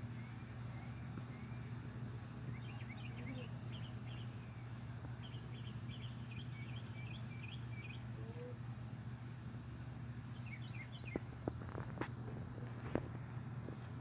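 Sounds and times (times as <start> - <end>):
low outdoor hum: 0.0 - 14.0
small birds chirping: 0.0 - 14.0.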